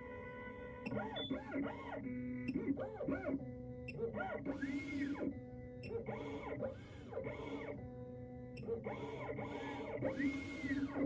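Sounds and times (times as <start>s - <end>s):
machine motors whining: 0.8s - 5.3s, 5.9s - 11.0s.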